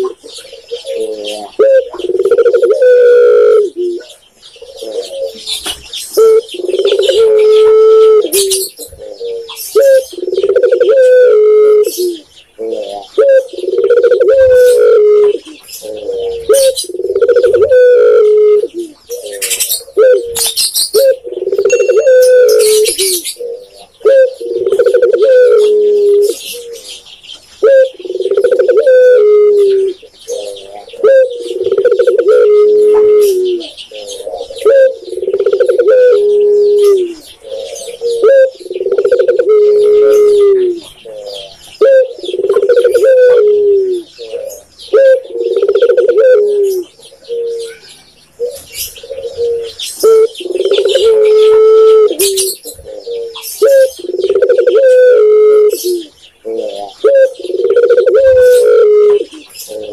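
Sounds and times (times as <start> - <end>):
dove cooing: 0.0 - 59.9
small birds chirping: 0.0 - 59.9.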